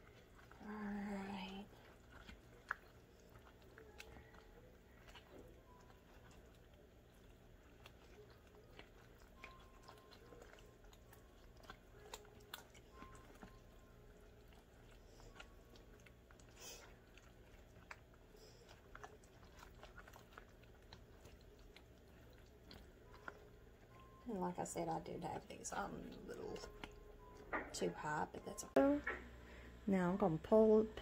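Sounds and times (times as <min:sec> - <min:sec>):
low room hum: 0:00.0 - 0:31.0.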